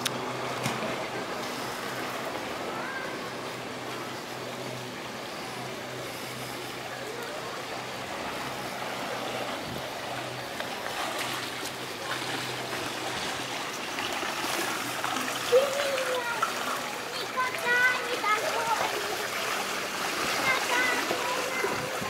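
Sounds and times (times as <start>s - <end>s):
steady low hum: 0.0s - 22.0s
water trickling and splashing: 0.0s - 22.0s.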